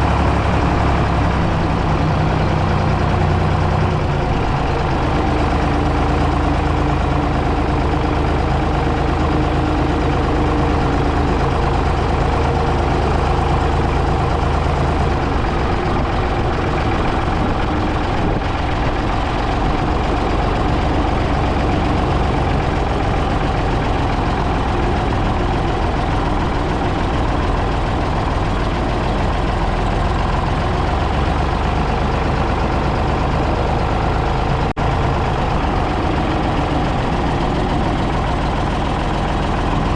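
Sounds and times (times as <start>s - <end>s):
backhoe loader engine running: 0.0s - 39.9s.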